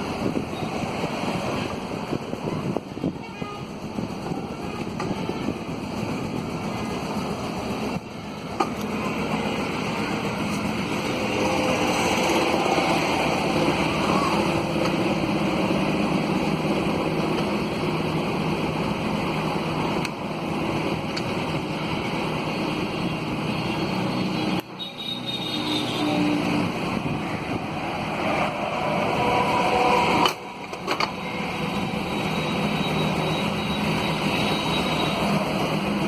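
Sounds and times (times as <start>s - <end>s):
steady vehicle noise: 0.0s - 36.0s.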